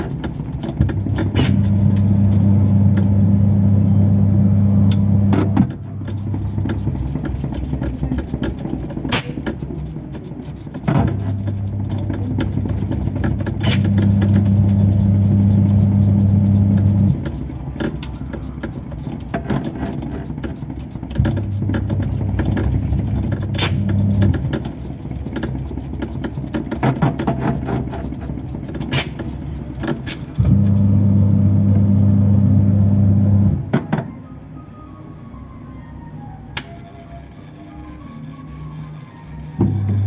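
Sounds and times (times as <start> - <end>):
washing machine motor hum: 0.0 - 40.0.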